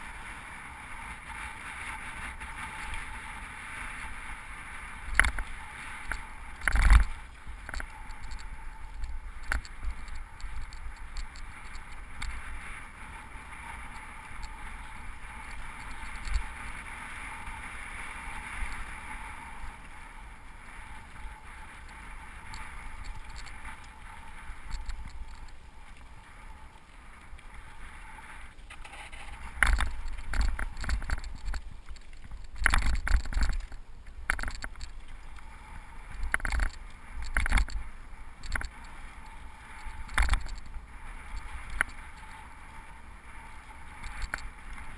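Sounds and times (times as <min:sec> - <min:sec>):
tyres rolling on dirt: 0:01.2 - 0:44.9
bike knocking and rattling: 0:04.8 - 0:20.0, 0:20.8 - 0:26.6, 0:28.1 - 0:42.5, 0:43.4 - 0:44.9.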